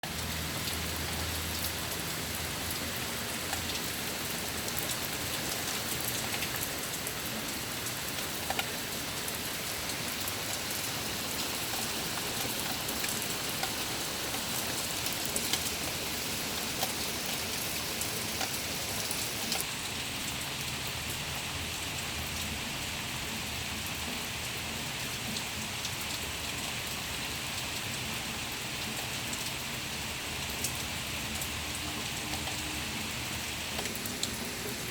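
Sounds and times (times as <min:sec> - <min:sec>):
rain pattering: 0:00.0 - 0:34.9.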